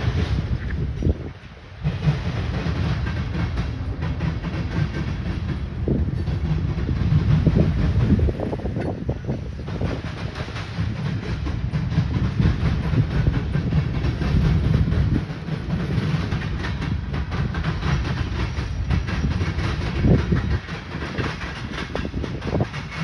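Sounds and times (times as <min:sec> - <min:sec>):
freight train rumbling: 0:00.0 - 0:23.0
wheels clicking over rail joints: 0:00.0 - 0:23.0.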